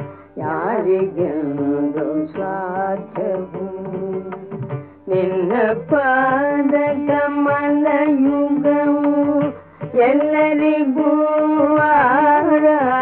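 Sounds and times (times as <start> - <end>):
instrumental accompaniment: 0.0 - 13.0
woman singing: 0.0 - 13.0.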